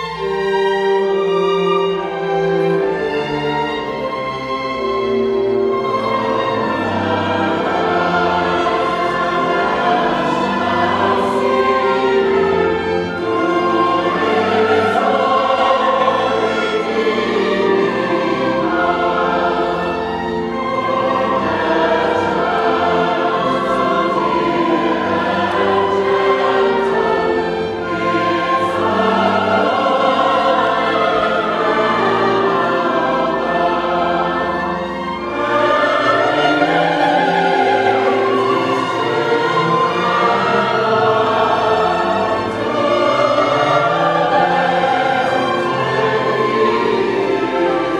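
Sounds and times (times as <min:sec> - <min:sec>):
choir singing: 0:00.0 - 0:47.9
instrumental accompaniment: 0:00.0 - 0:47.9.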